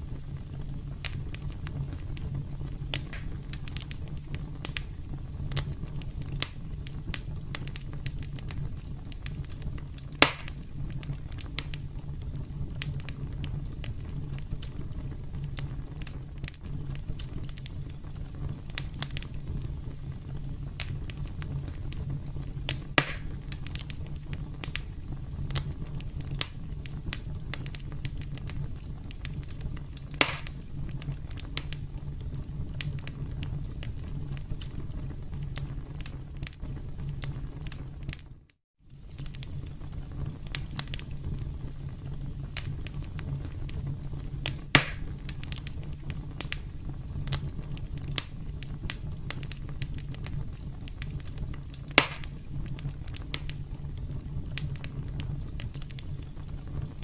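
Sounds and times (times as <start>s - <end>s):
campfire crackling: 0.0s - 57.0s
low rumble of flames: 0.0s - 57.0s.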